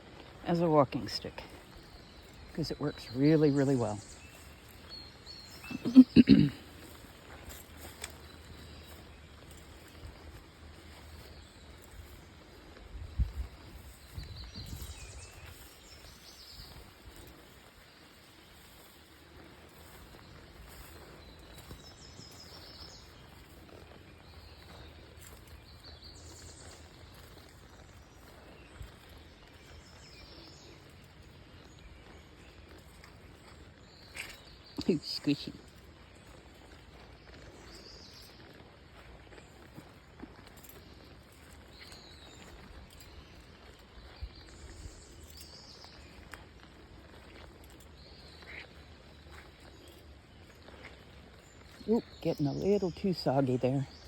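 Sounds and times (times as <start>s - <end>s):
footsteps on soggy ground: 0.0s - 54.0s.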